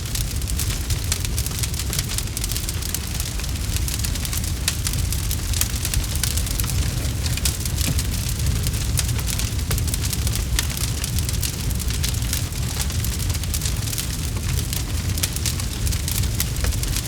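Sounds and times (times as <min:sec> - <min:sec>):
campfire wood crackling and popping: 0:00.0 - 0:17.0
low rumble of flame: 0:00.0 - 0:17.0.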